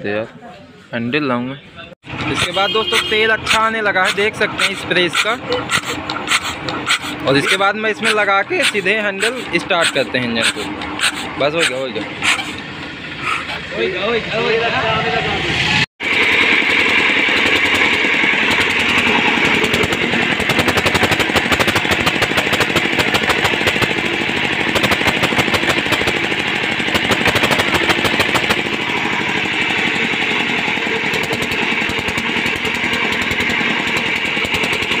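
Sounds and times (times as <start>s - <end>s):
diesel engine running steadily: 2.0s - 35.0s.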